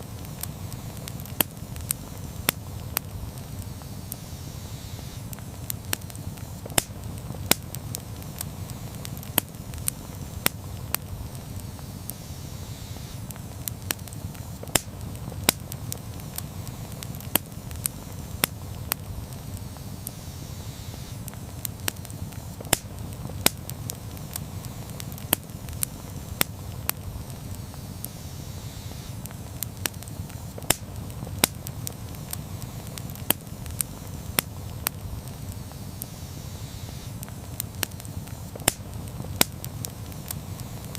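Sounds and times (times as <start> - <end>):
burning wood crackling and popping: 0.0 - 40.9
low rumble of flames: 0.0 - 40.9.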